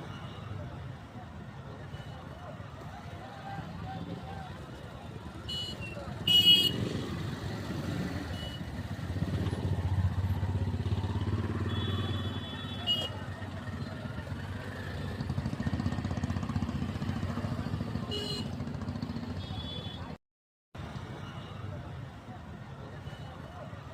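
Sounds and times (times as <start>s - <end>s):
road noise: 0.0s - 20.2s, 20.8s - 23.9s.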